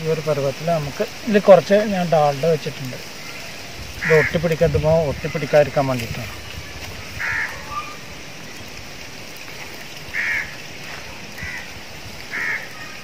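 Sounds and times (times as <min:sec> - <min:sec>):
background noise: 0:00.0 - 0:13.0
bird calling: 0:02.0 - 0:13.0.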